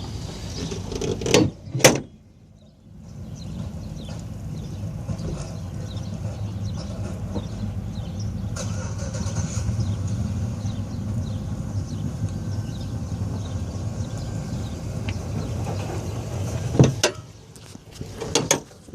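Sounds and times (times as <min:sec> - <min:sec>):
car engine droning: 0:00.0 - 0:18.9.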